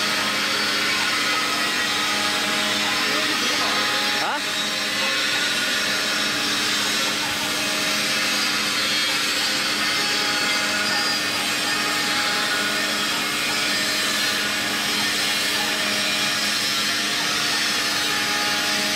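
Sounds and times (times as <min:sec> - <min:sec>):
milling machine cutting: 0:00.0 - 0:18.9.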